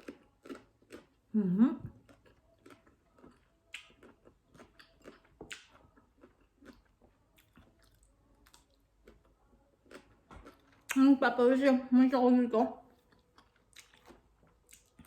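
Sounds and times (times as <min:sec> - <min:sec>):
crunchy chewing: 0:00.0 - 0:01.2, 0:01.9 - 0:11.0, 0:12.9 - 0:15.0.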